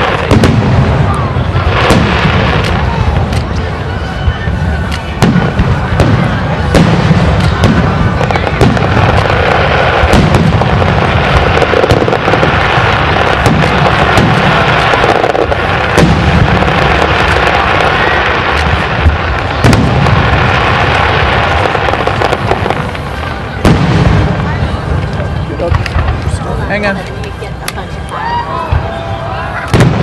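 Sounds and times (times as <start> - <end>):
fireworks bangs and booms: 0.0 - 30.0
fireworks crackling: 0.0 - 30.0.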